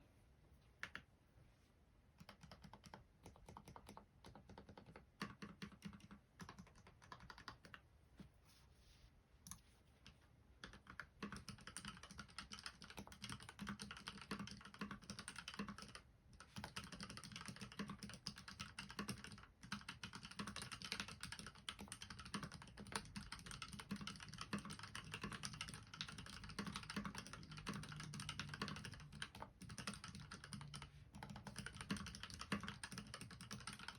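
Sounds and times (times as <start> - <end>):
mechanical keyboard typing: 2.2 - 7.8, 10.6 - 33.9.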